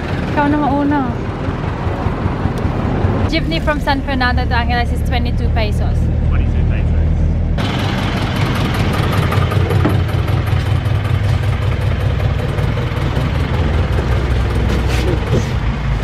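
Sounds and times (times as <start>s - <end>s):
engine running with low rumble: 0.0s - 16.0s.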